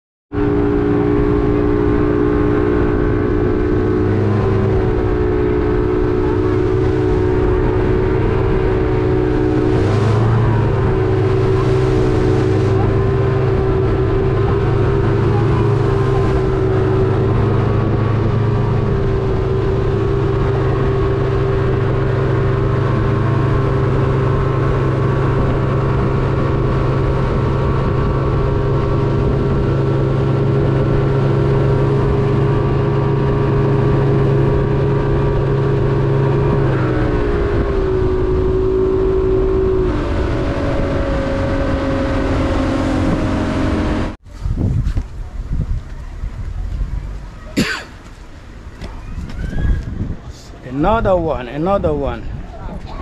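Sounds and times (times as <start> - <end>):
outboard motor droning: 0.3 - 44.4, 45.2 - 53.0
wind and water rushing: 0.3 - 53.0.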